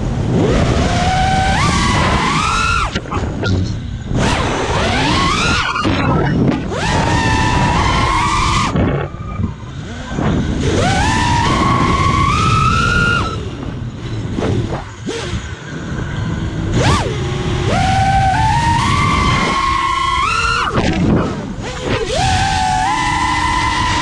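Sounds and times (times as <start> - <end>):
quadcopter motors whining: 0.0 - 24.0
wind over microphone: 0.0 - 24.0.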